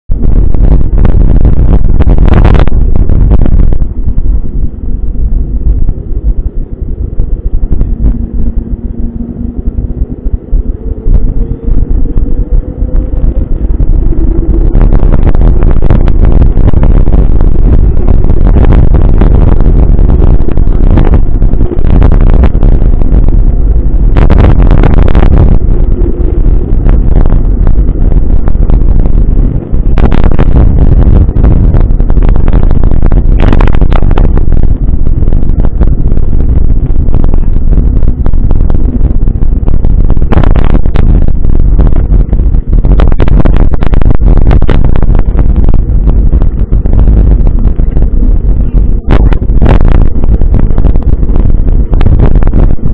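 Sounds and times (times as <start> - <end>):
loud wind rumble: 0.0 - 52.9.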